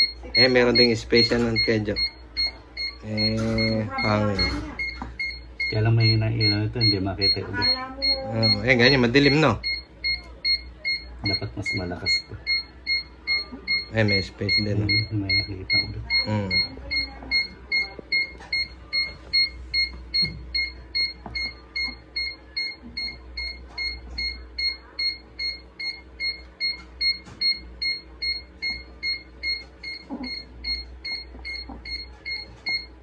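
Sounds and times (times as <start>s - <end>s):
electronic beeper high beeps: 0.0s - 32.9s.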